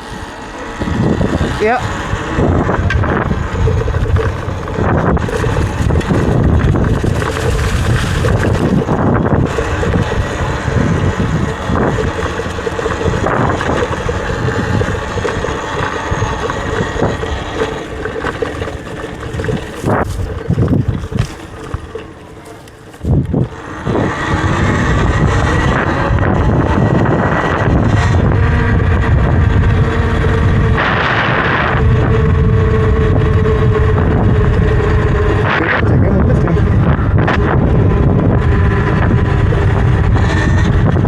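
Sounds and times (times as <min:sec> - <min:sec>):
faint electric bike hum: 0:00.0 - 0:41.0
wind buffeting microphone: 0:00.0 - 0:41.0.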